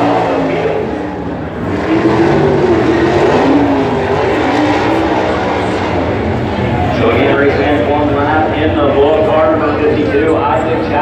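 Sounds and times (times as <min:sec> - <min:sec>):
race car engines racing: 0:00.0 - 0:11.0.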